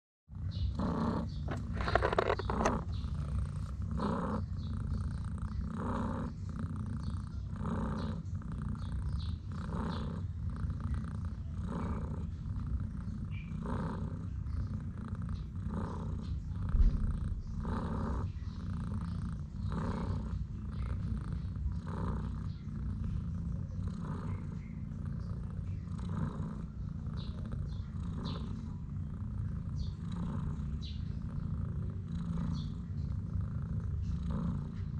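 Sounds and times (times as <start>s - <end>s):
cat purring: 0.3s - 34.9s.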